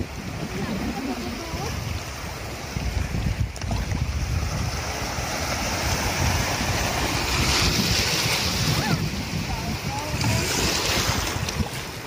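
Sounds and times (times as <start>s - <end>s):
small waves breaking: 0.0s - 12.0s
wind rumbling on microphone: 0.0s - 12.0s.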